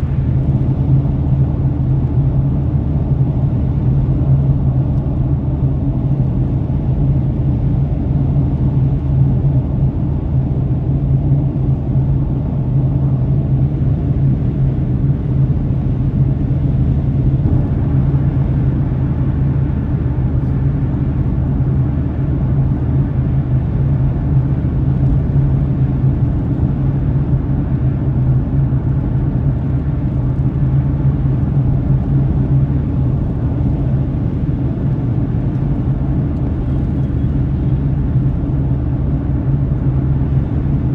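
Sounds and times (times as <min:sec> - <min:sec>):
low hum: 0:00.0 - 0:06.6, 0:13.5 - 0:40.9
car driving heard from cabin: 0:00.0 - 0:40.9.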